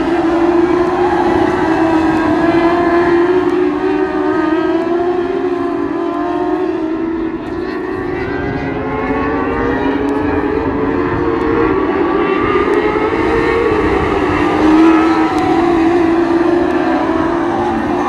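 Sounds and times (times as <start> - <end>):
race car engines whining: 0.0 - 18.0.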